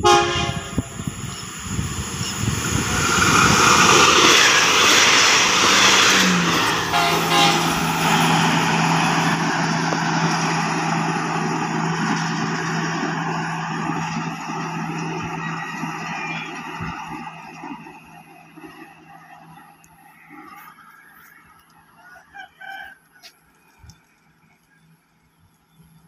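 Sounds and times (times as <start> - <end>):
diesel railcar passing at speed: 0.0 - 26.0.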